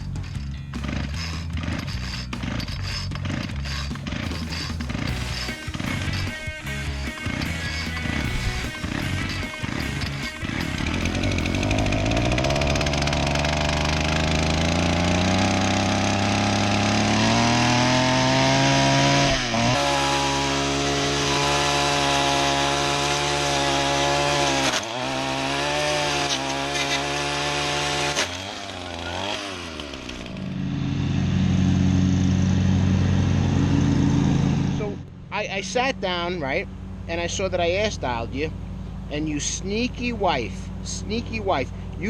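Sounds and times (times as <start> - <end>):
weed whacker engine revving: 0.0 - 35.1.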